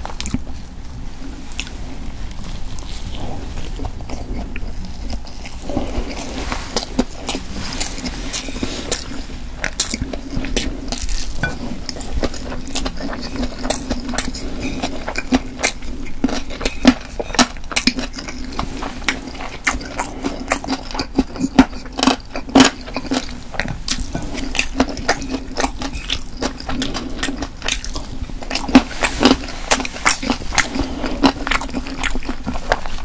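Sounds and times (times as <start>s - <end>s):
crunching while eating: 0.0s - 33.0s.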